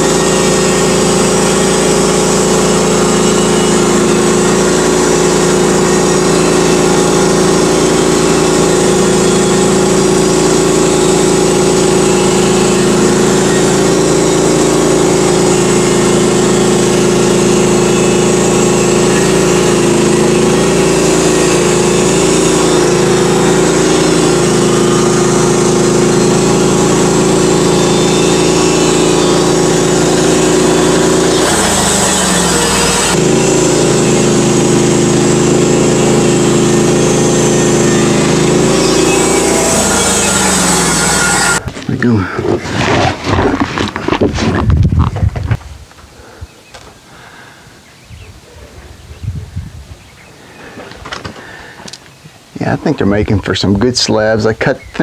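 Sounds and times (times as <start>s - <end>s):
band sawmill cutting log: 0.0s - 46.4s, 50.4s - 55.0s.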